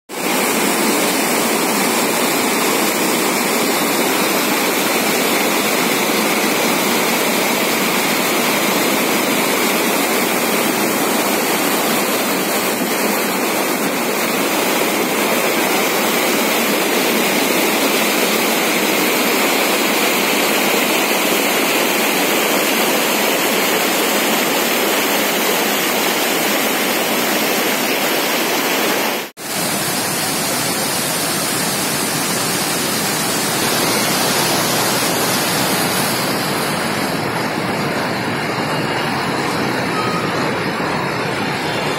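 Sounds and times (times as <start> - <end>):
floodwater rushing: 0.1 - 41.9.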